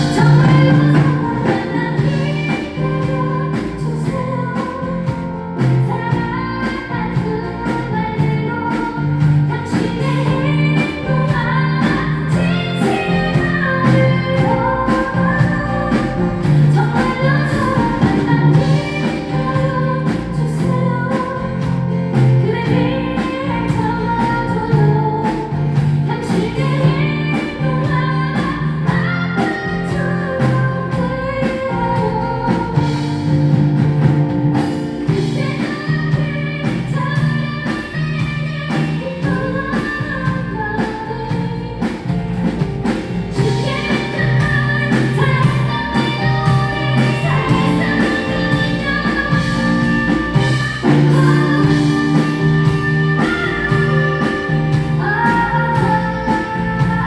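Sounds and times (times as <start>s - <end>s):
person singing: 0.0s - 33.4s, 43.3s - 57.0s
live pop-rock band: 0.0s - 57.0s.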